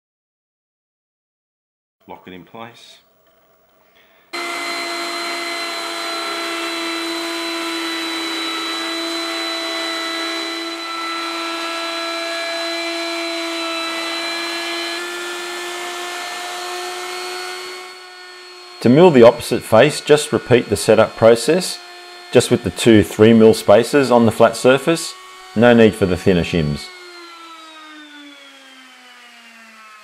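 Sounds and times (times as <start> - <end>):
router motor whine: 4.4 - 30.0.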